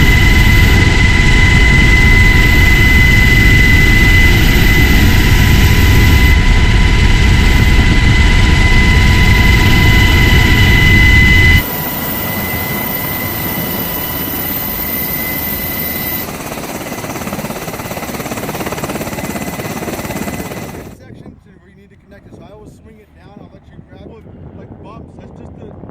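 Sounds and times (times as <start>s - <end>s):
high whining tones: 0.0s - 21.0s
helicopter rotor and engine rumble: 0.0s - 25.9s.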